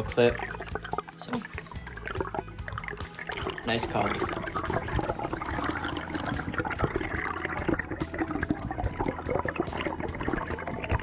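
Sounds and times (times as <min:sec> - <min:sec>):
underwater bubbling: 0:00.0 - 0:11.0.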